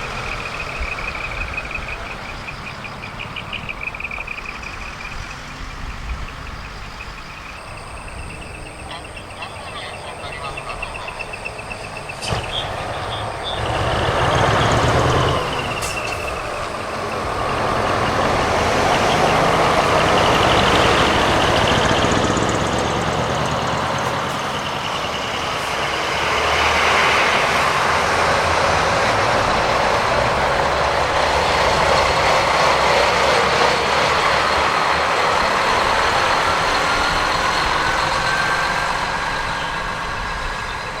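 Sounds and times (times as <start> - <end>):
heavy diesel trucks running: 0.0 - 41.0.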